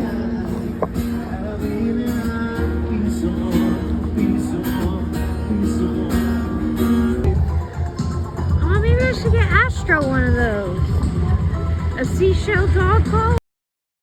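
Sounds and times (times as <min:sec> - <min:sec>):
acoustic guitar music: 0:00.0 - 0:13.4.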